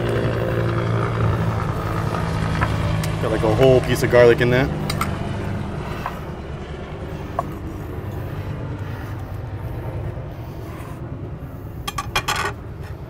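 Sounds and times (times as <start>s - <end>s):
helicopter drone: 0.0s - 13.0s.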